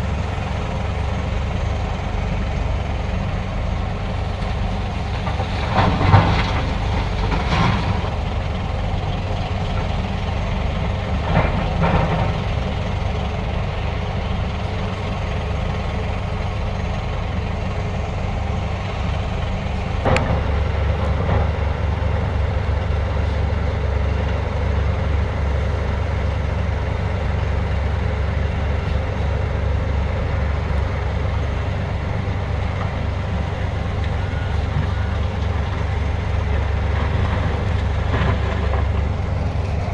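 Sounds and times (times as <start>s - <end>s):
diesel excavator engine rumble: 0.0s - 39.9s.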